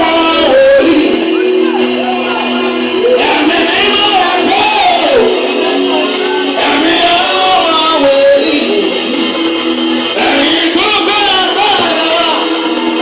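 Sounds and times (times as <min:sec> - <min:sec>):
held instrumental chords: 0:00.0 - 0:13.0
voices singing: 0:00.0 - 0:13.0.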